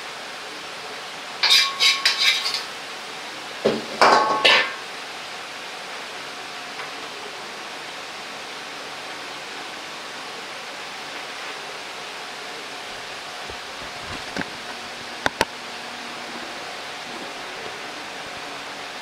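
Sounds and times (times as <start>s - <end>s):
kitchen background hiss: 0.0s - 19.0s.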